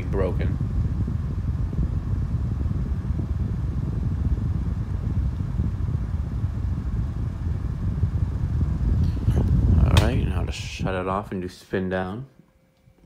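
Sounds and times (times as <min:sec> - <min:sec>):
fan housing shaking: 0:00.0 - 0:11.4
table fan running: 0:00.0 - 0:13.0.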